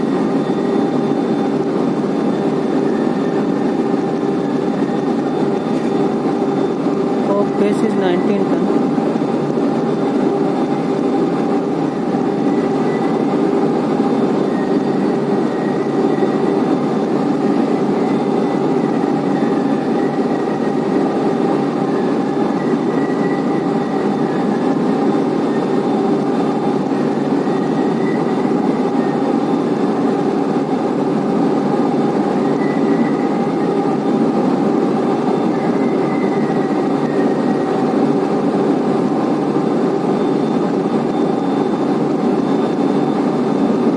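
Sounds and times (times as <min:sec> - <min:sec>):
conveyor mechanical din: 0:00.0 - 0:43.9.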